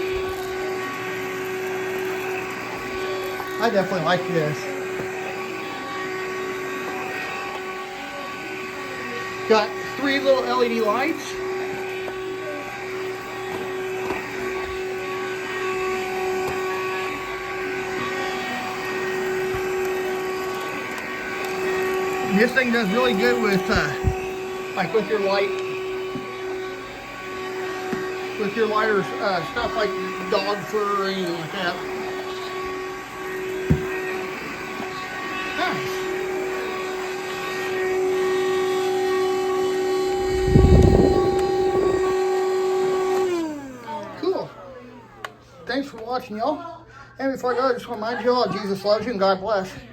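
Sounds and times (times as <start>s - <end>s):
vacuum cleaner motor whine: 0.0s - 46.6s, 47.2s - 49.9s.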